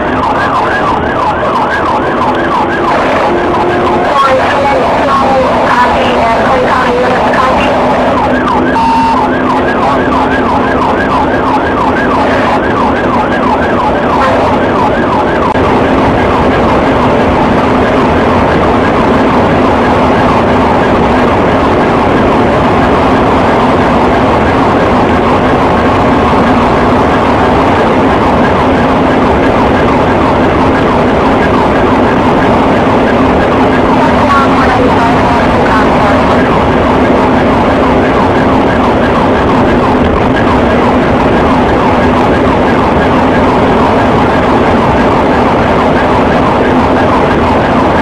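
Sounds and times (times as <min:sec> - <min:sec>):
engine and road noise: 0:00.0 - 0:48.0
police siren: 0:00.0 - 0:48.0.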